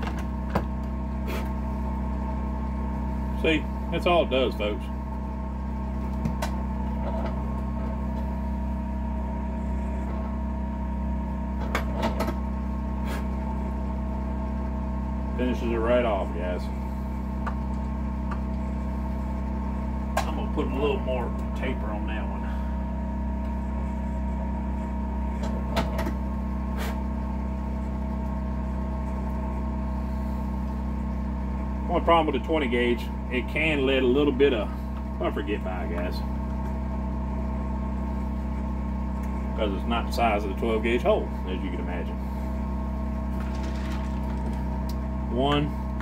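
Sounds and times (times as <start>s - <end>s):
electric motor humming: 0.0s - 46.0s.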